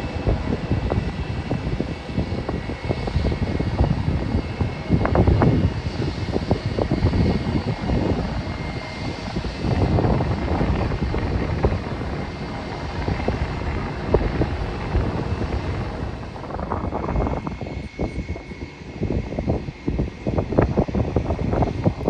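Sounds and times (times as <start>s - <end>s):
aircraft engines rumbling: 0.0s - 22.0s
wind buffeting microphone: 0.0s - 22.0s.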